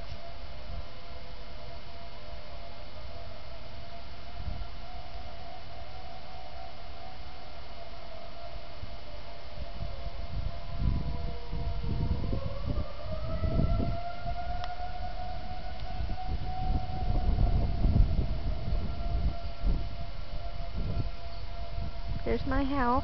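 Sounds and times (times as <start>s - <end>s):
tornado warning sirens: 0.0s - 23.0s.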